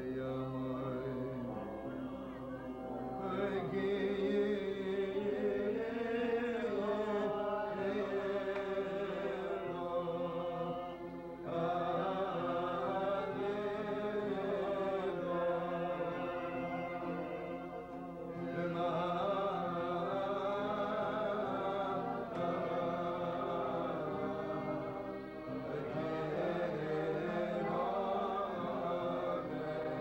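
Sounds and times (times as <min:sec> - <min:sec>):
man singing: 0:00.0 - 0:30.0.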